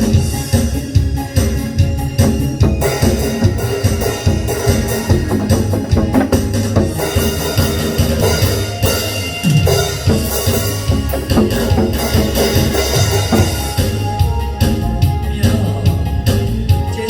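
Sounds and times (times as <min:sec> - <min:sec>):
instrumental music with drum beat: 0:00.0 - 0:17.0.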